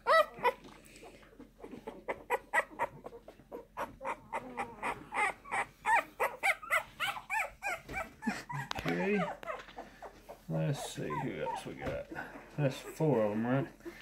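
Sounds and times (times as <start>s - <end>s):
puppies whimpering and squealing: 0.0s - 14.0s.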